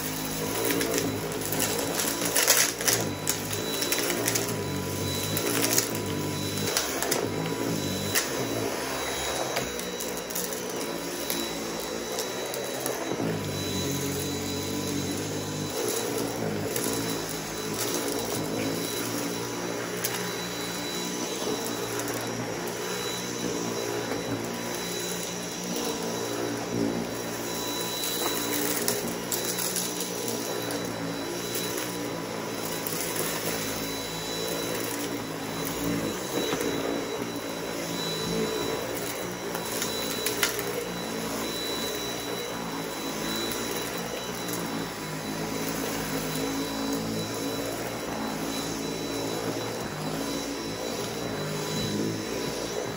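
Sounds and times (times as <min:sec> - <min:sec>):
vacuum cleaner hum and whine: 0:00.0 - 0:52.9.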